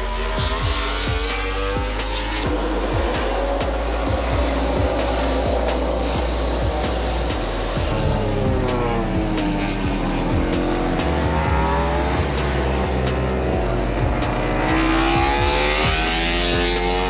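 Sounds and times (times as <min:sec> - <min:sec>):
background music: 0:00.0 - 0:17.0
racing motorcycle engine revving: 0:00.0 - 0:17.0.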